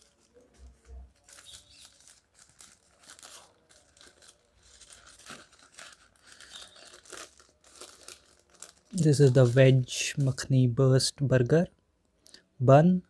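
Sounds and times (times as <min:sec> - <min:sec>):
paper wrapper crinkling: 0:00.0 - 0:10.5.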